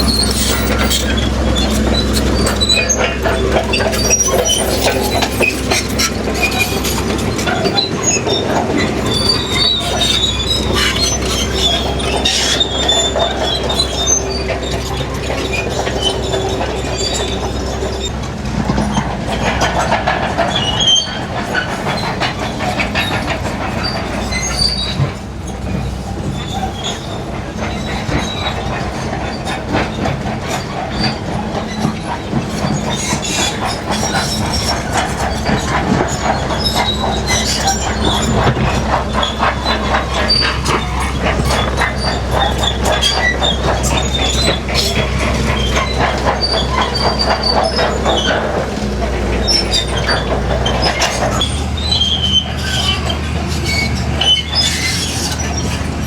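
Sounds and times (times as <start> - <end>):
bulldozer diesel engine running: 0.0 - 56.0
steel tracks clanking and squealing: 0.0 - 56.0.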